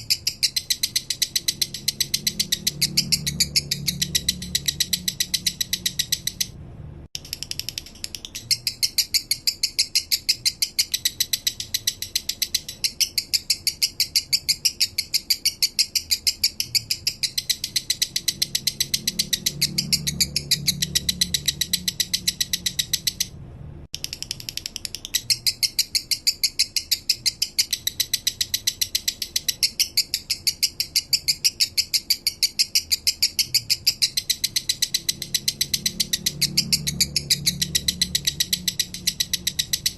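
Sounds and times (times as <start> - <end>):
lovebird chattering song: 0.0 - 6.6, 7.2 - 23.3, 24.0 - 39.9.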